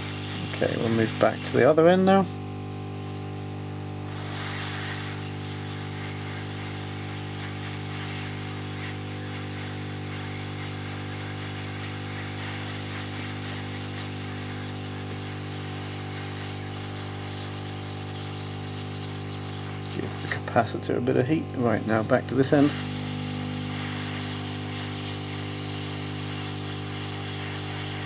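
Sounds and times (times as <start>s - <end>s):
hiss of blowing air: 0.0s - 2.2s, 4.0s - 20.5s, 21.9s - 28.0s
hot air gun motor hum: 0.0s - 28.0s.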